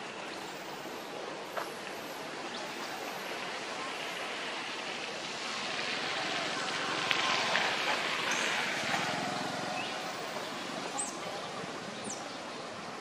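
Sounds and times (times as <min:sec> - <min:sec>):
wind through trees: 0:00.0 - 0:13.0.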